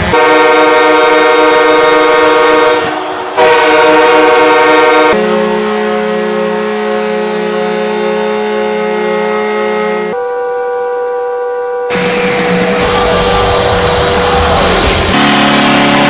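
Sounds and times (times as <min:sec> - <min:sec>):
air horn blasts: 0:00.0 - 0:13.8, 0:15.0 - 0:16.0
lower-pitched horn: 0:00.0 - 0:16.0.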